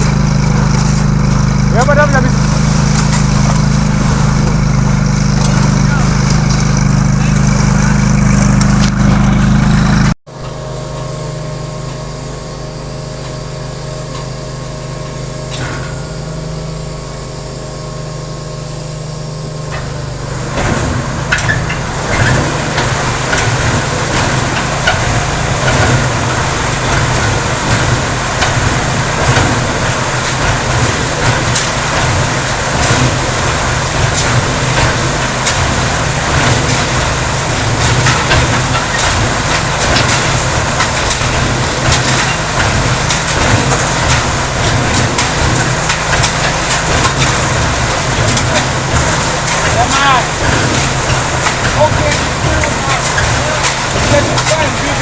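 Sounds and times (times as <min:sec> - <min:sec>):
rattling clatter: 0:00.0 - 0:17.0, 0:18.8 - 0:55.0
concrete mixer motor running: 0:00.0 - 0:55.0.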